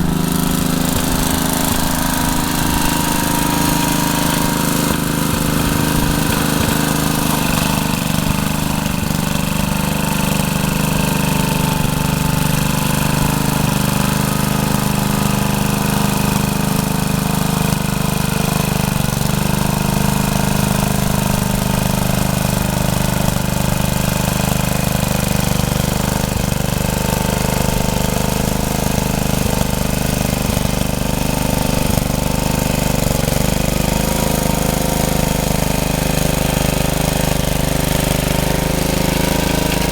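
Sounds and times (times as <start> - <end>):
rototiller engine running: 0.0 - 39.9.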